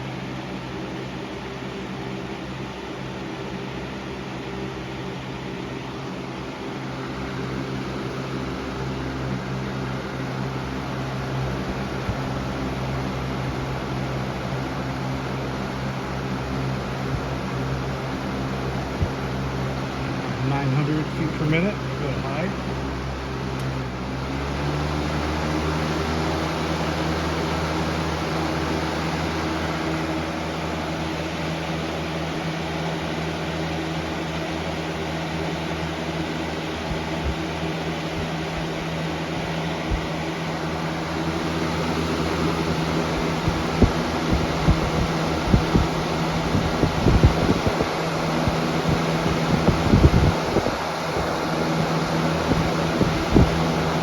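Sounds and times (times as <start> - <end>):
airflow buffeting microphone: 0.0 - 54.0
box fan whirring: 0.0 - 54.0.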